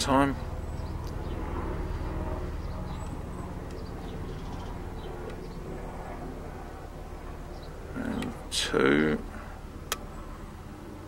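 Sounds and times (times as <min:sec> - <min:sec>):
helicopter flying over: 0:00.0 - 0:11.0.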